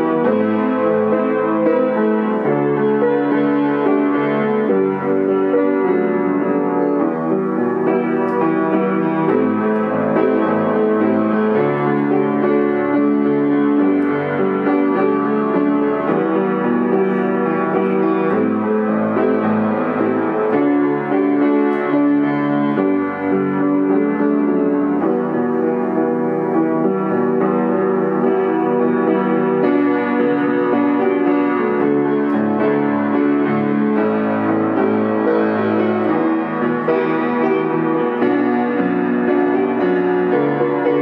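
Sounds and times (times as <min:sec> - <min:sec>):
grand piano chords: 0:00.0 - 0:41.0.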